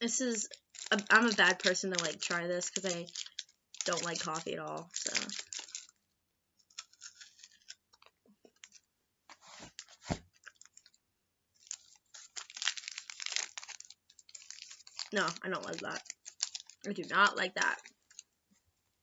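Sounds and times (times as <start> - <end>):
crunching wafer chocolate bar: 0.4 - 6.0, 6.6 - 8.9, 9.8 - 11.0, 11.6 - 18.3.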